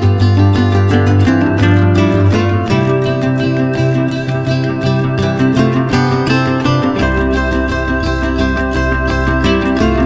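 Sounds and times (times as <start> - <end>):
deep bass: 0.0 - 10.0.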